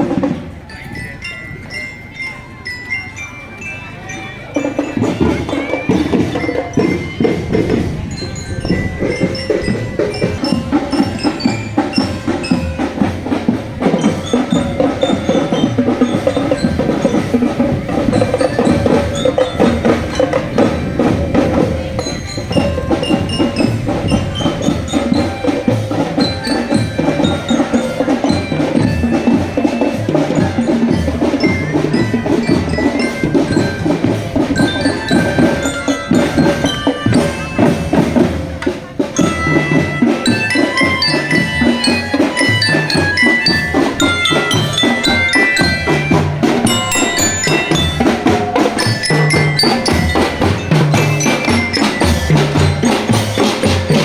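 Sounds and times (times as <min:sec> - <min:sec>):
marching drums: 0:00.0 - 0:02.8, 0:04.2 - 0:54.0
bell lyra melody: 0:00.0 - 0:54.0.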